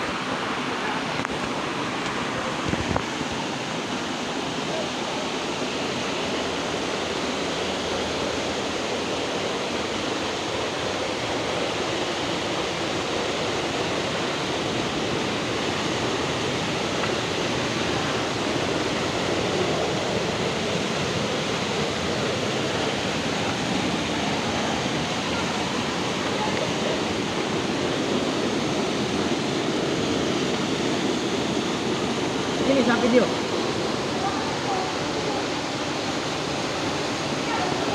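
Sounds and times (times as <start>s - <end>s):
waterfall crashing: 0.0s - 37.9s.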